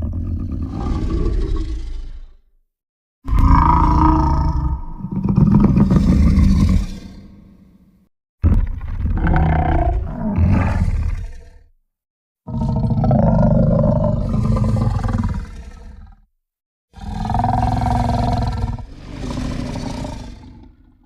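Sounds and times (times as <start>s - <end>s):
low rumbling monster growls: 0.0s - 2.4s, 3.3s - 7.6s, 8.5s - 11.7s, 12.5s - 16.3s, 17.0s - 21.0s.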